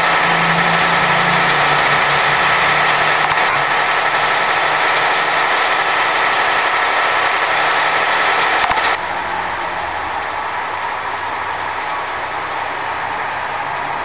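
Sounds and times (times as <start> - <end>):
low hum: 0.0 - 14.0
truck engine and road noise: 0.0 - 14.0.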